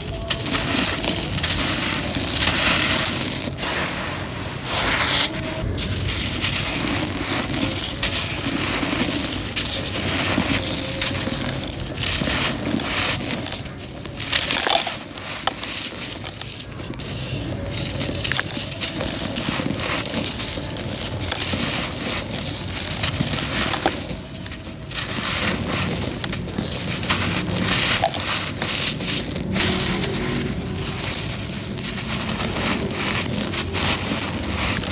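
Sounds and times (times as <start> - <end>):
cement being crushed: 0.0 - 34.9.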